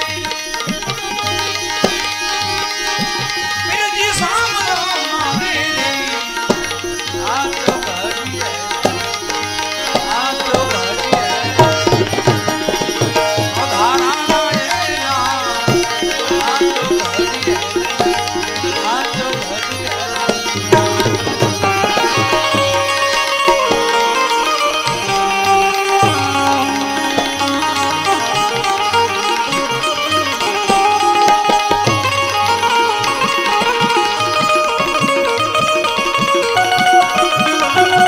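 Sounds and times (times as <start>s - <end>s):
devotional melody: 0.0s - 38.0s
tabla drumming: 0.0s - 38.0s.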